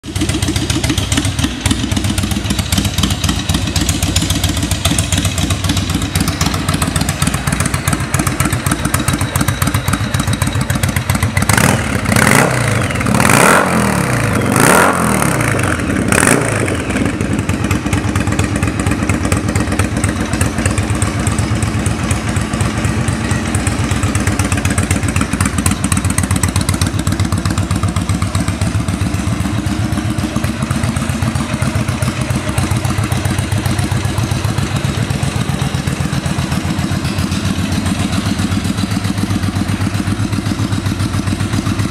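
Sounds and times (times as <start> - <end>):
motorcycle engine idling: 0.0 - 41.9
motorcycle engine revving: 0.0 - 41.9.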